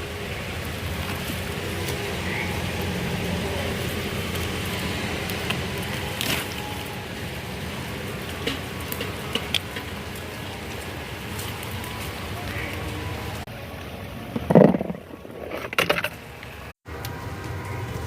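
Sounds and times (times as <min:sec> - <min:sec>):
steady rain falling: 0:00.0 - 0:14.3, 0:16.3 - 0:18.0.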